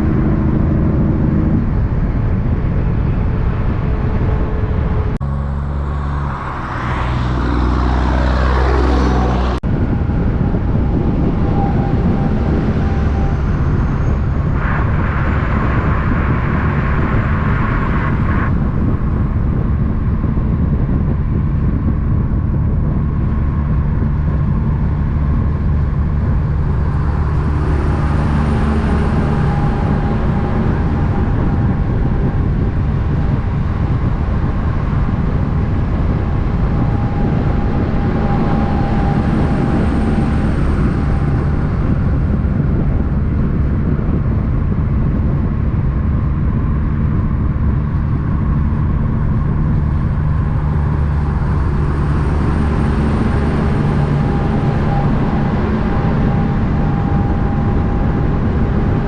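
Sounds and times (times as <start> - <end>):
diesel truck engines droning: 0.0 - 59.0
truck passing by: 0.0 - 59.0.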